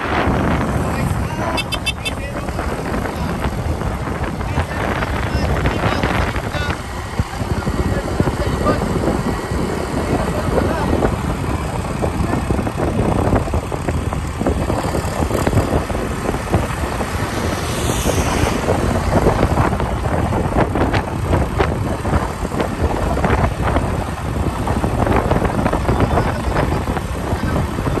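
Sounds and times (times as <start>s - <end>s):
vehicle engine and tyre noise: 0.0s - 28.0s
wind buffeting microphone: 0.0s - 28.0s.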